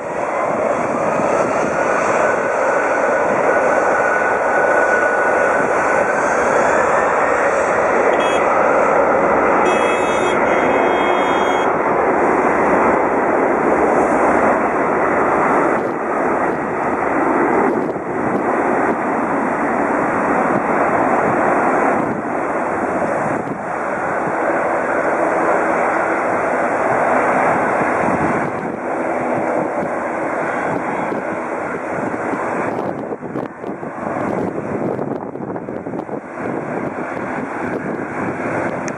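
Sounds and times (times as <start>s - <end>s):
jet engines running at high power: 0.0s - 38.9s
rising jet engine whine: 0.0s - 38.9s.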